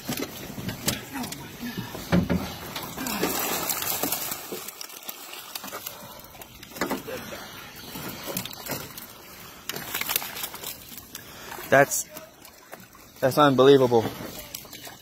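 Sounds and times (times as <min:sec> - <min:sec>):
fish thrashing and splashing: 0:00.0 - 0:15.0.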